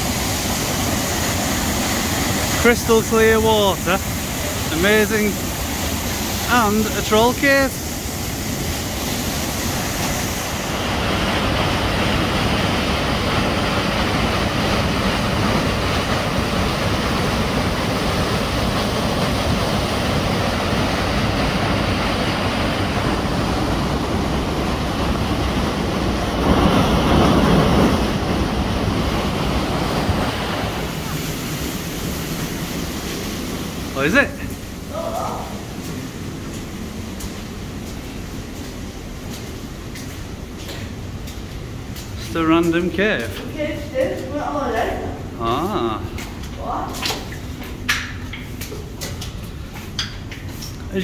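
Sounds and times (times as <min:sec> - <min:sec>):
waterfall rushing into pool: 0:00.0 - 0:40.4, 0:42.4 - 0:48.3.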